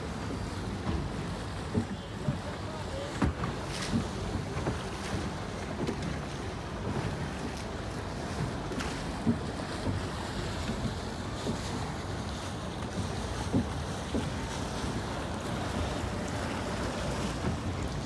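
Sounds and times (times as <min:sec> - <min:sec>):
water washing against boat hull: 0:00.0 - 0:18.0
waves slapping boat: 0:00.0 - 0:18.0.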